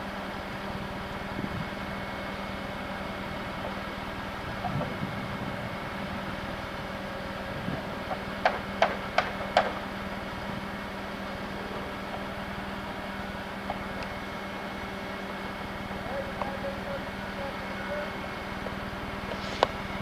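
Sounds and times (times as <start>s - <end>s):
steady engine hum: 0.0s - 20.0s.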